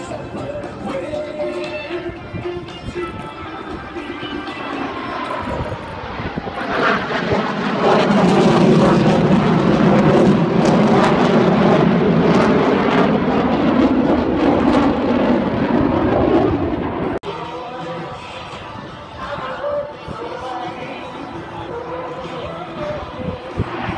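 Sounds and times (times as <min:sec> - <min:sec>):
jet engines roaring past: 0:00.0 - 0:23.9.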